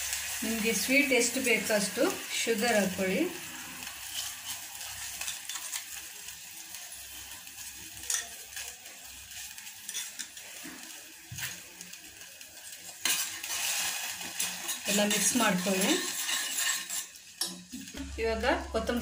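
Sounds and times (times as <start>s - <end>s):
liquid sizzling in a pot: 0.0s - 19.0s.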